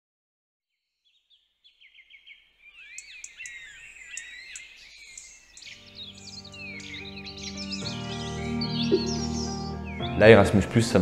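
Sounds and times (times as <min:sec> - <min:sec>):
birds chirping and warbling: 0:00.8 - 0:11.0.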